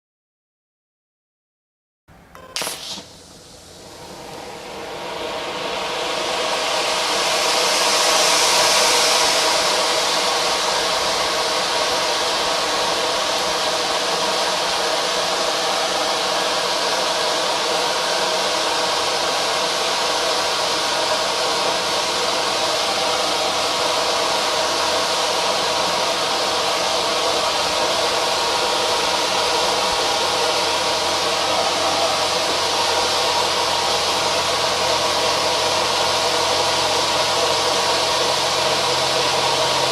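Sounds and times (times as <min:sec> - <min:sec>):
firework fountain hissing: 0:02.4 - 0:39.9.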